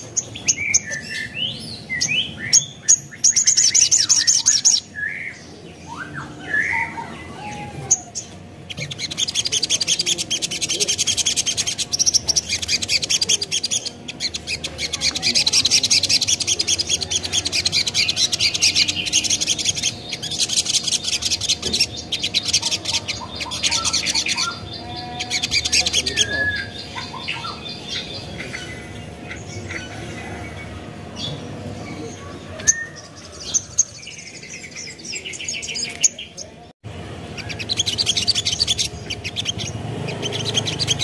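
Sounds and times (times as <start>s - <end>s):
bird chattering song: 0.0s - 41.0s
bird chirps: 0.0s - 41.0s.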